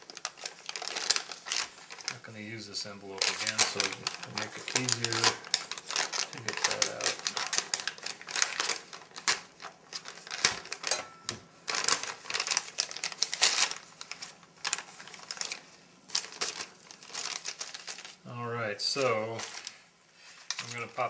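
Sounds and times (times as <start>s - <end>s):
plastic and foil crinkling: 0.0s - 21.0s.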